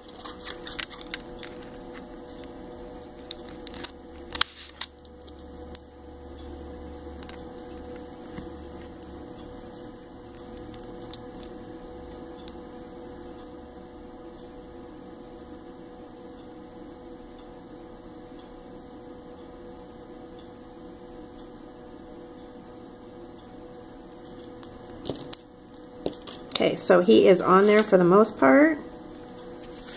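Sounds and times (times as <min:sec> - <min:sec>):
electrical hum: 0:00.0 - 0:29.9.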